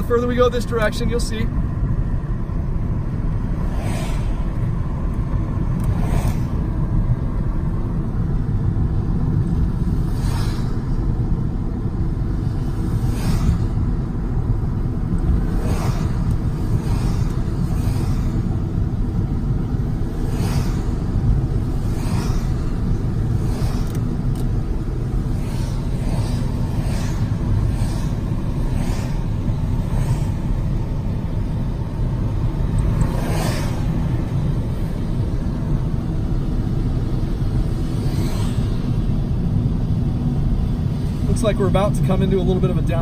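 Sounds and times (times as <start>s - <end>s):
tyre and engine rumble: 0.0s - 43.0s.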